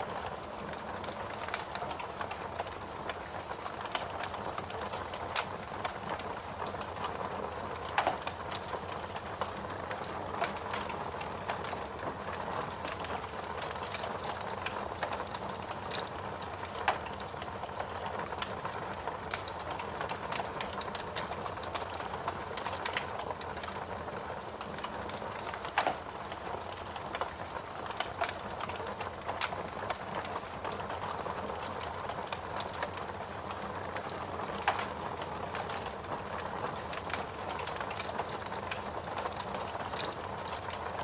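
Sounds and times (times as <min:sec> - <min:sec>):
wood crackling and popping: 0:00.0 - 0:41.0.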